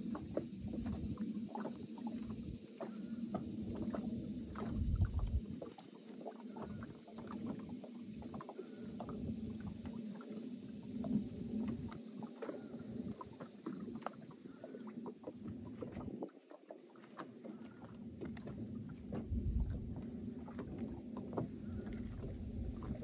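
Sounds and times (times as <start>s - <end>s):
steady low hum: 0.0s - 16.4s, 17.4s - 23.0s
wind rumbling on microphone: 0.0s - 16.5s, 17.4s - 23.0s
waves slapping against boat hull: 0.0s - 23.0s.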